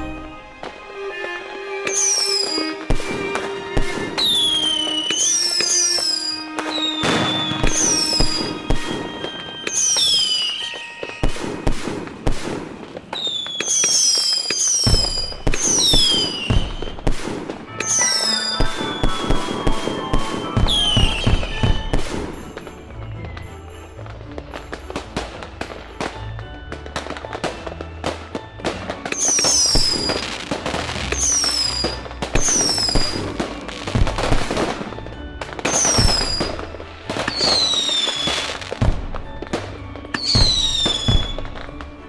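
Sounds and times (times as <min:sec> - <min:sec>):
background music: 0:00.0 - 0:42.0
fireworks bangs: 0:00.0 - 0:42.0
fireworks whistles falling in pitch: 0:01.1 - 0:23.5, 0:29.0 - 0:41.8.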